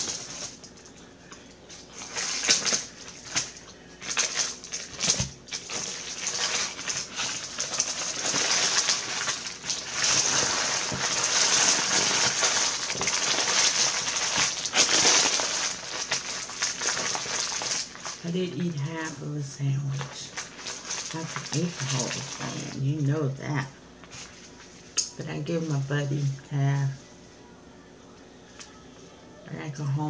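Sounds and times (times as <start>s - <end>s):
paper wrapper crinkling: 0.0s - 1.0s, 1.6s - 19.3s, 19.9s - 23.0s, 24.0s - 26.5s.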